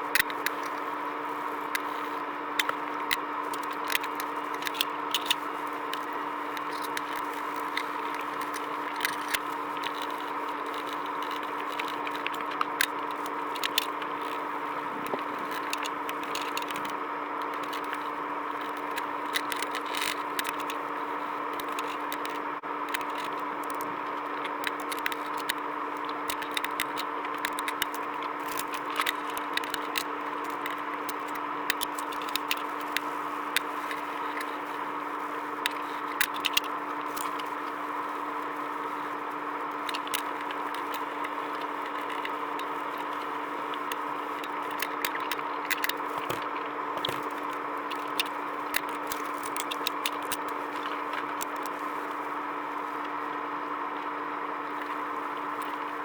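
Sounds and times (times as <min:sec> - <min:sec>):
small clicks and scrapes: 0:00.0 - 0:56.0
steady electric hum: 0:00.0 - 0:56.0.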